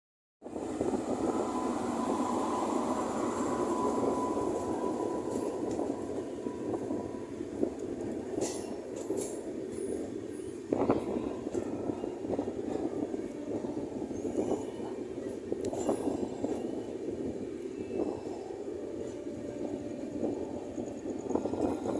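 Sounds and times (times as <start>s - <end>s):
train rumbling on track: 0.4s - 21.9s.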